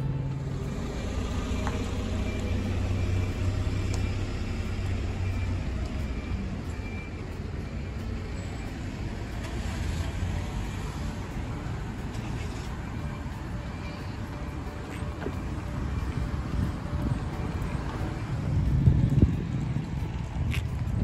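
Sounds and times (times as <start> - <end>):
motor vehicle engine rumble: 0.0 - 21.0.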